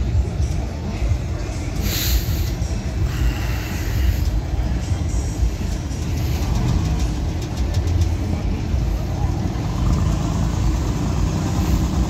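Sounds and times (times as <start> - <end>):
car engine rumbling: 0.0 - 12.0
faint music: 0.0 - 12.0.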